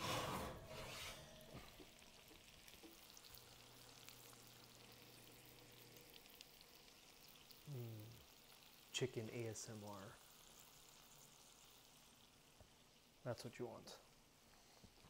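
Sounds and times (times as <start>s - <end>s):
food sizzling in skillet: 0.0s - 13.3s, 14.0s - 15.0s.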